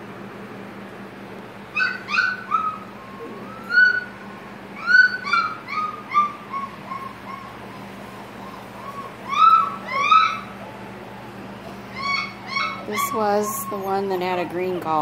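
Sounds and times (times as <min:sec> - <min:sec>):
puppy whining: 0:01.7 - 0:15.0.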